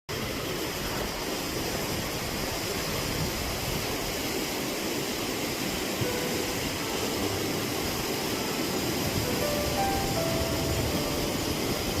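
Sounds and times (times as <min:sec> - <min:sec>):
strong wind hissing: 0:00.1 - 0:12.0
wind rumbling on microphone: 0:00.2 - 0:12.0.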